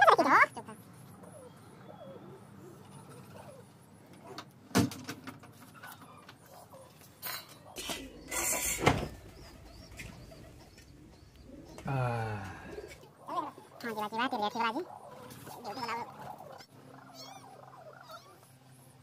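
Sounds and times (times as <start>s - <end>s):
faint bird calls: 0.0s - 4.5s, 5.6s - 19.0s.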